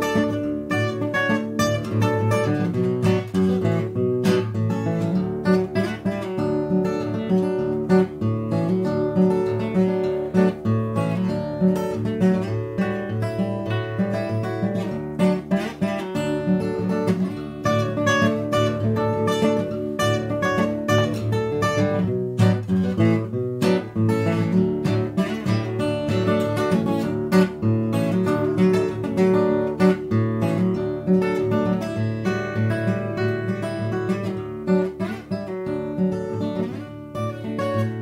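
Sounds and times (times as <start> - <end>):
fingerstyle acoustic guitar: 0.0 - 38.0.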